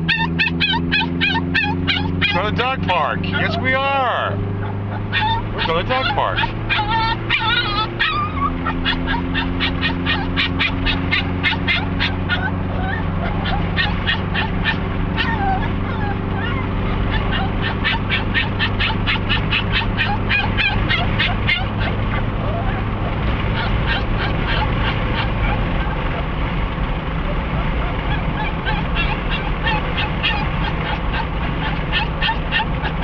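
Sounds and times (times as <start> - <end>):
small dog yipping and squealing: 0.0 - 26.2, 27.3 - 33.0
car hum: 0.0 - 33.0.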